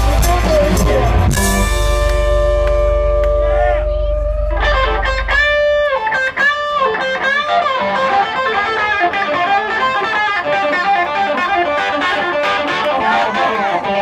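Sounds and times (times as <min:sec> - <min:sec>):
electric guitar solo: 0:00.0 - 0:14.0.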